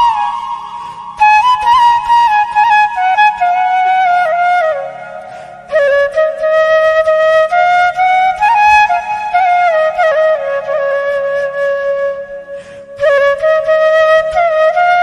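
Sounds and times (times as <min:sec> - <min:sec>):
solo flute melody: 0:00.0 - 0:15.0.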